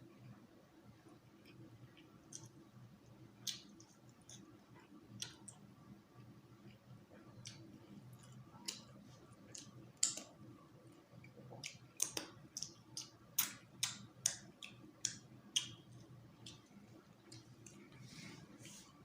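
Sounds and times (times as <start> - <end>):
person chewing with wet mouth sounds: 1.3 - 19.0.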